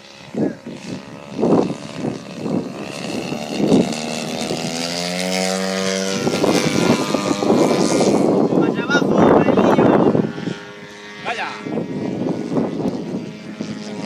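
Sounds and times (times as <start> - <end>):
model aircraft engine: 0.0 - 14.0.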